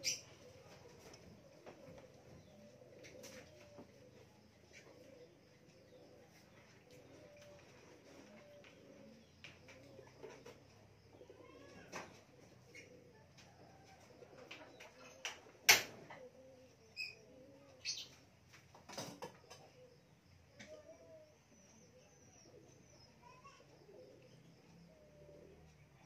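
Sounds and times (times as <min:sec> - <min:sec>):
birds cooing: 0:00.0 - 0:26.0.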